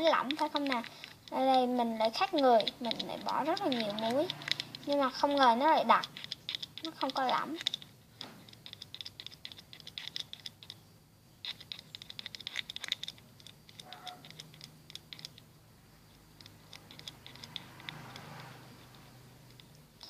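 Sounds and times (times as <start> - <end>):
spoon stirring slime: 0.0 - 10.8, 11.4 - 15.5, 16.1 - 20.0.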